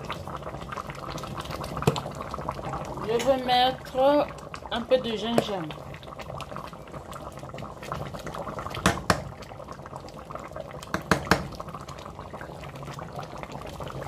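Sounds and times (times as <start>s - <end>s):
thick sauce bubbling: 0.0s - 14.0s.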